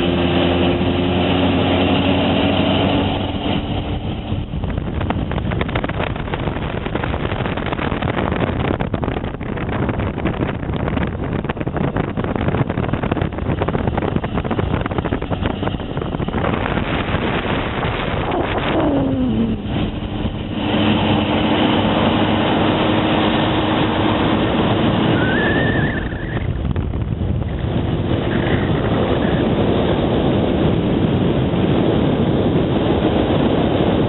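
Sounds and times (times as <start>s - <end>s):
wind rush on microphone: 0.0s - 34.0s.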